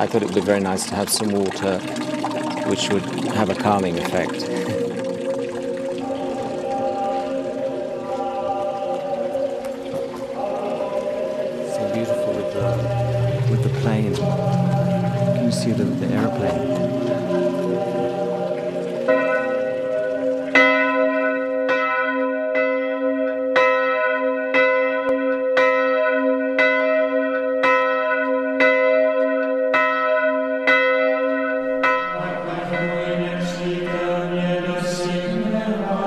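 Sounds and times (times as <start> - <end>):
church bell tolling: 0.0 - 36.0.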